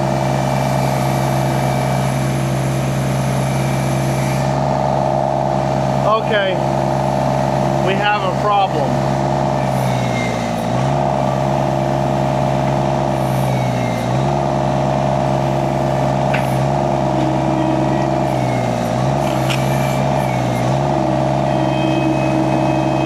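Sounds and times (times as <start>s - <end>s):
skid steer engine running: 0.0s - 23.0s.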